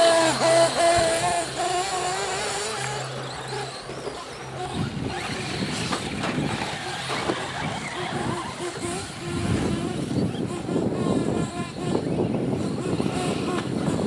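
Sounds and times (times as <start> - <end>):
rc car nitro engines whining: 0.0 - 14.0.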